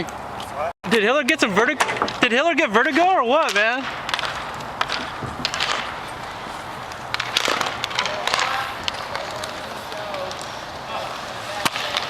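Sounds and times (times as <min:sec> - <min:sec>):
skates on the rink floor: 0:01.6 - 0:12.0
sharp clacks of sticks on puck: 0:01.8 - 0:12.0.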